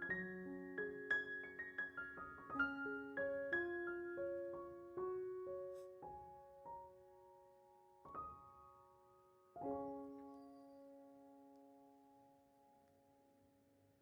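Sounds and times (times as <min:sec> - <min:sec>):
piano notes: 0:00.0 - 0:12.9.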